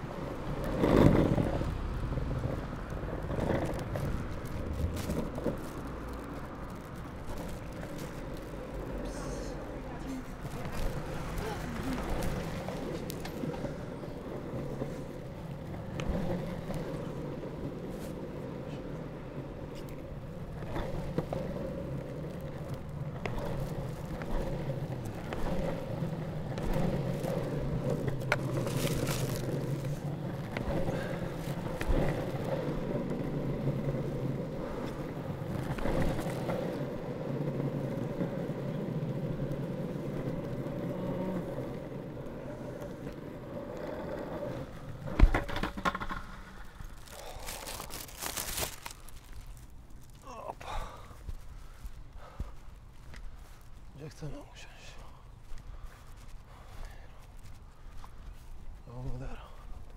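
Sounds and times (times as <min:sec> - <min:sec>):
longboard wheels rolling on asphalt: 0:00.0 - 0:59.9.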